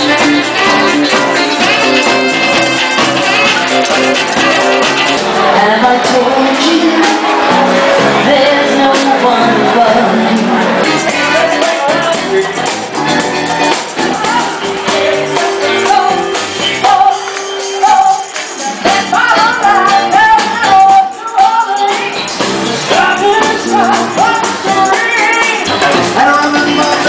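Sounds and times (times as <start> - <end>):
high percussion rhythm: 0.0 - 27.0
live band playing: 0.0 - 27.0
people singing: 0.0 - 27.0.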